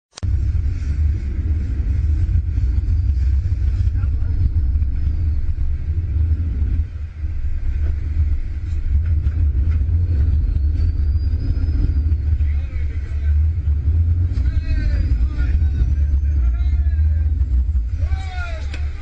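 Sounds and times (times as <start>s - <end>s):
steady low rumble: 0.1s - 19.0s.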